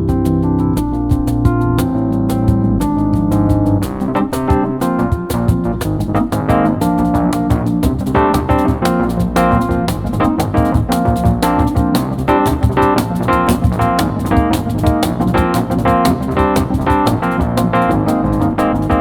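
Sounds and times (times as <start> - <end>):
piano playing chords and melody: 0.0 - 19.0
busy percussion rhythm: 0.1 - 19.0.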